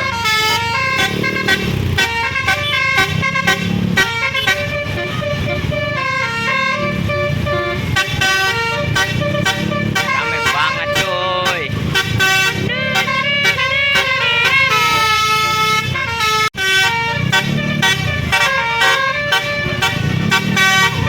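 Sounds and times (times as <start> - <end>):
multi-tone bus horn melody: 0.0 - 21.0
vehicle engine rumble: 0.0 - 21.0.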